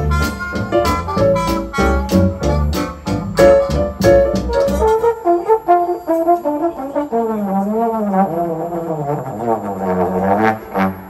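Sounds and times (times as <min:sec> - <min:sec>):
solo trombone melody: 0:00.0 - 0:11.0
trombone ensemble playing chords: 0:00.0 - 0:11.0.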